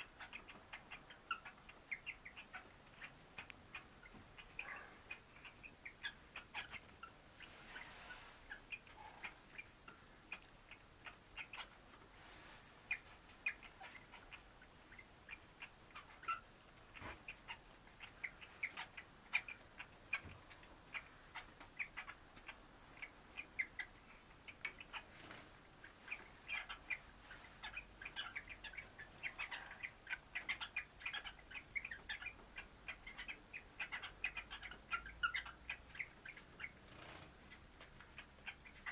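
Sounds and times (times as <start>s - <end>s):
cockatiel chirping: 0.0s - 38.9s.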